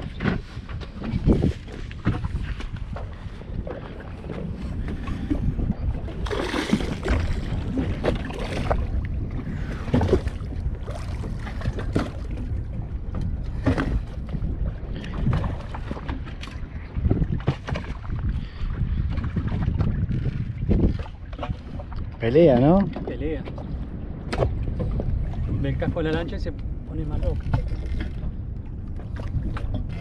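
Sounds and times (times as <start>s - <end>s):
water washing against boat hull: 0.0s - 30.0s
wind buffeting microphone: 0.0s - 30.0s.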